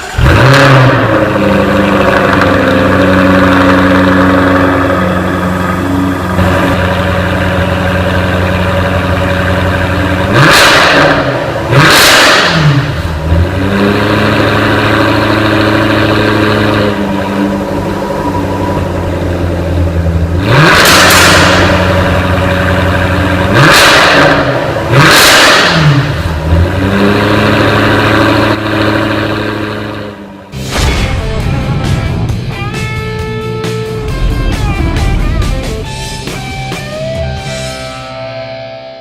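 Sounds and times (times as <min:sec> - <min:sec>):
engine revving: 0:00.0 - 0:38.1
car engine starting and idling: 0:00.0 - 0:38.2.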